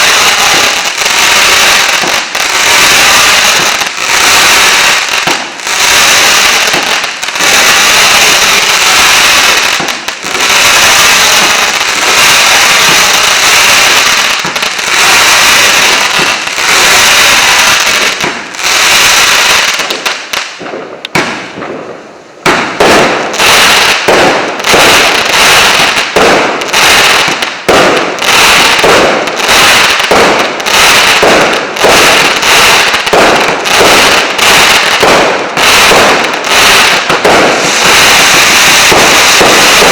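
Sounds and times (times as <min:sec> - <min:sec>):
firework cake bangs and crackling: 0:00.0 - 0:39.9.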